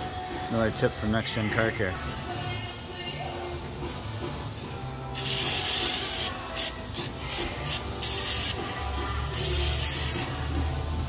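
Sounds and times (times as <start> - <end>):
aerosol can spraying: 2.0 - 11.0.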